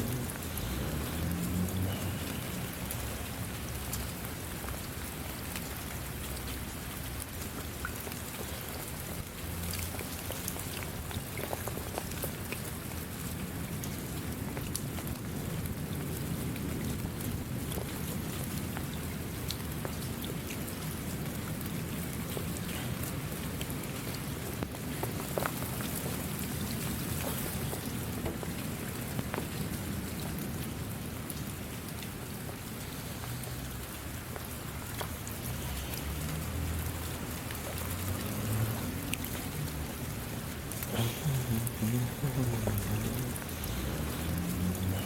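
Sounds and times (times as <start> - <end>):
rain falling: 0.0 - 45.0
raindrops ticking: 0.0 - 45.0.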